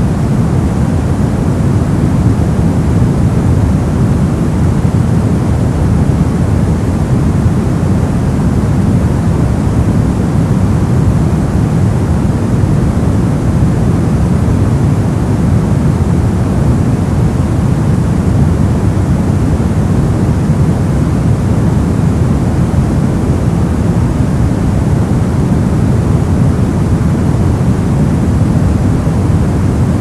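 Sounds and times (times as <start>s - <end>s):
brown noise: 0.0s - 30.0s.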